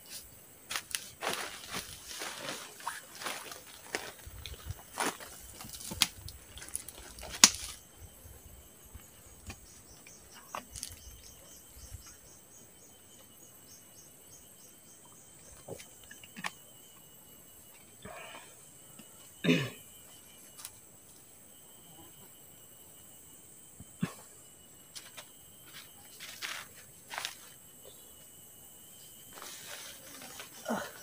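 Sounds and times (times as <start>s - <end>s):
faint high insect drone: 0.0s - 31.0s
insects chirping: 0.0s - 31.0s.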